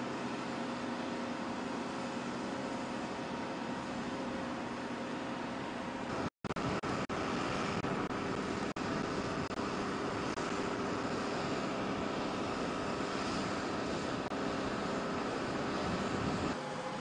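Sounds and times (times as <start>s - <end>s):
aircraft engines roaring: 0.0s - 17.0s.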